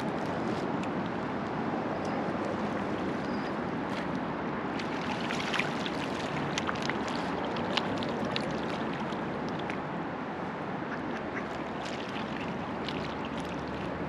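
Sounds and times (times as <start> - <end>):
small water splashes and drips: 0.0 - 10.0, 11.4 - 14.0
river water babbling: 0.0 - 14.0.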